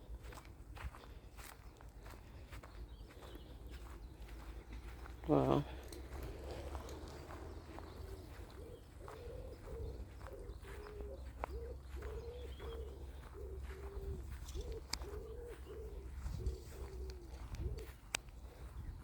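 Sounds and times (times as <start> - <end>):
pigeons cooing: 2.3 - 19.0.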